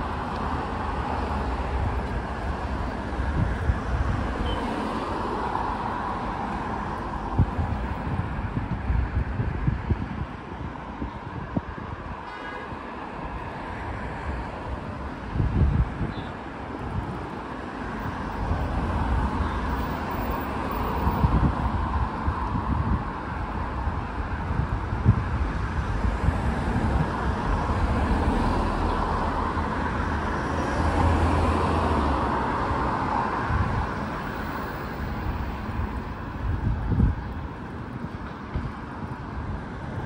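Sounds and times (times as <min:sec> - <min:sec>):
cars and tyres rushing: 0:00.0 - 0:40.0.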